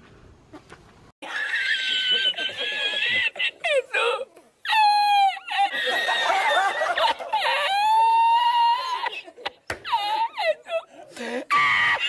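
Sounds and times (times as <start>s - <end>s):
man laughing in high squeals: 1.2s - 12.0s.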